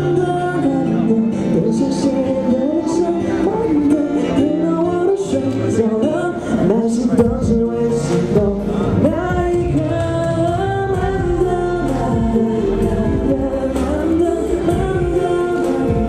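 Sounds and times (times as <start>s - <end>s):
bass line: 0.0s - 16.0s
man singing into a microphone: 0.0s - 16.0s.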